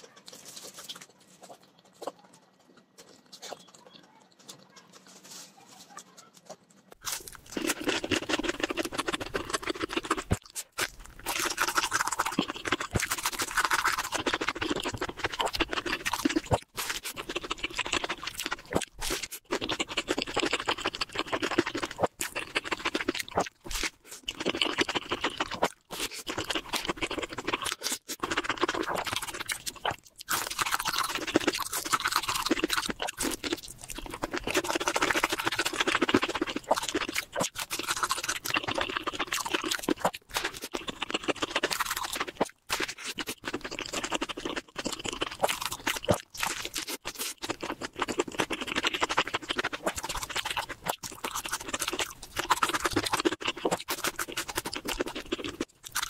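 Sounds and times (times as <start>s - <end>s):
crunching of fried food: 0.0s - 56.0s
wet chewing: 0.0s - 56.0s.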